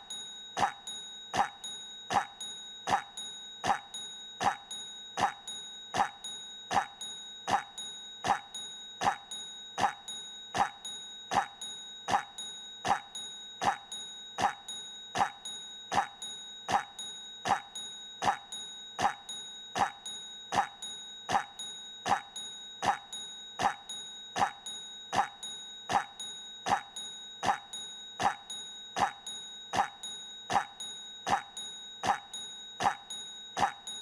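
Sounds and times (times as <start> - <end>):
constant high tone: 0.0 - 34.0.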